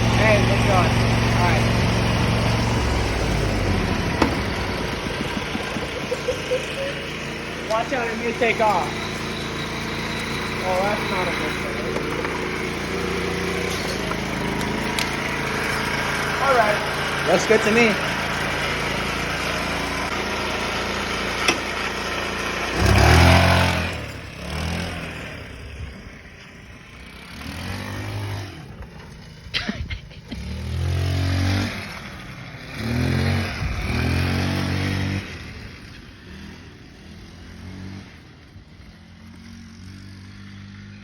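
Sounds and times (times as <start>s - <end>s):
scooter engine revving: 0.0s - 41.0s.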